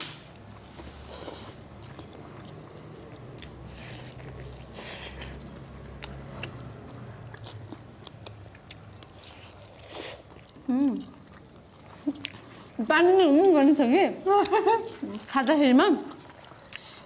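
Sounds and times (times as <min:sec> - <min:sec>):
chewing and wet smacking: 0:01.3 - 0:13.8, 0:14.4 - 0:17.0.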